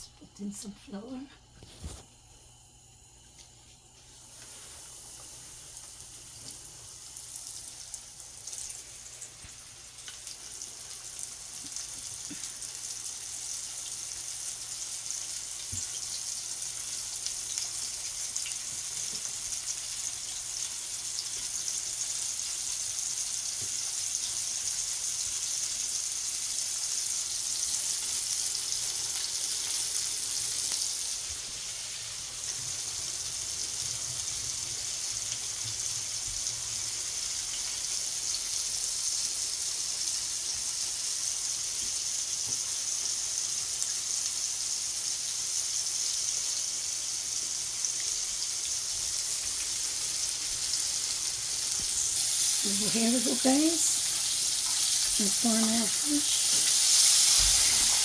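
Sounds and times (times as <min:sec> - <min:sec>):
grease sizzling in a frying pan: 0:04.0 - 0:58.0.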